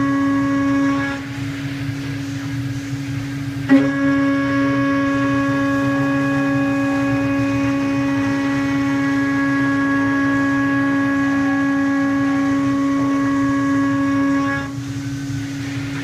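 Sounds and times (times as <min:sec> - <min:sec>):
grinding of metal cutting: 0:00.0 - 0:02.6, 0:03.4 - 0:16.0
high-pitched spindle whine: 0:00.0 - 0:16.0.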